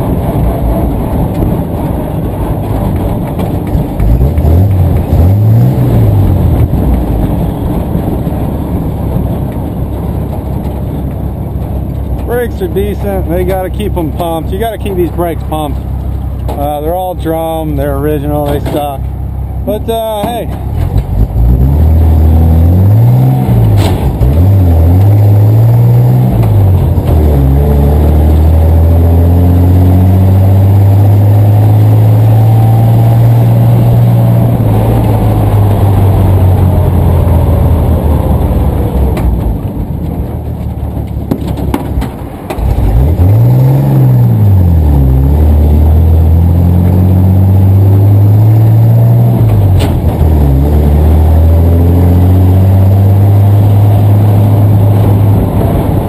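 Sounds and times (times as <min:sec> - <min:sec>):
truck engine revving through gears: 0:00.0 - 0:56.0.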